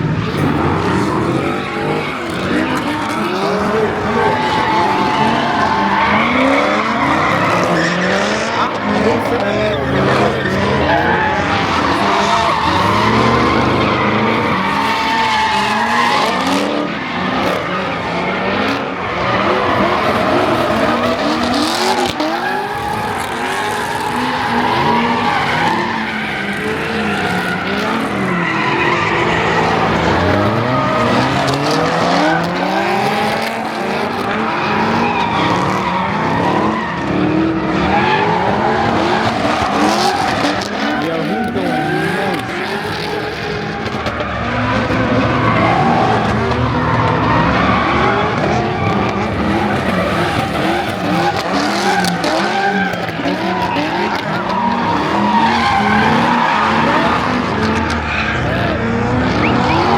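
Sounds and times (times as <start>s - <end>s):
car engines revving: 0.0s - 59.9s
tyres squealing and skidding: 0.0s - 59.9s.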